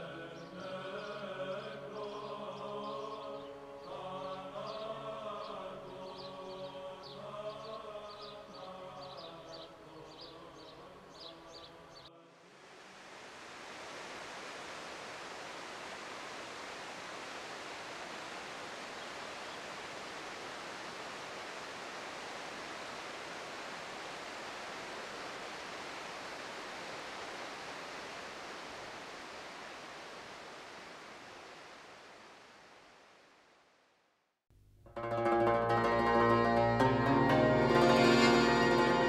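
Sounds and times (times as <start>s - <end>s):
river rushing over rocks: 0.0s - 33.3s.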